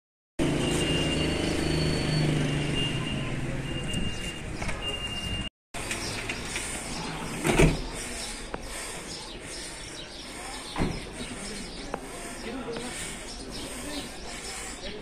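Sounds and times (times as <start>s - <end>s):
street ambience: 0.4s - 15.0s.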